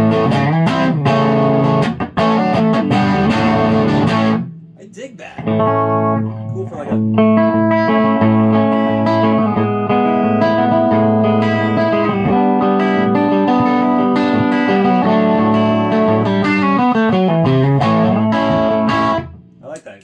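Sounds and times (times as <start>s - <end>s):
overdriven electric guitar chords: 0.0s - 4.8s, 5.4s - 19.6s.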